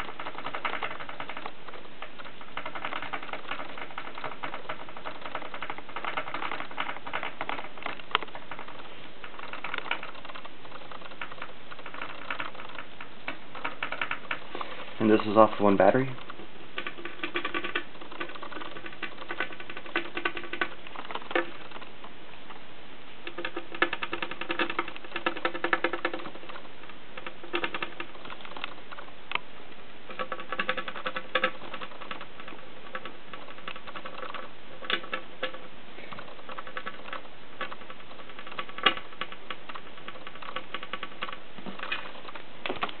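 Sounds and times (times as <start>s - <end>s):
faint electrical buzz: 0.0s - 43.0s
high-voltage ticking and snapping: 0.0s - 43.0s.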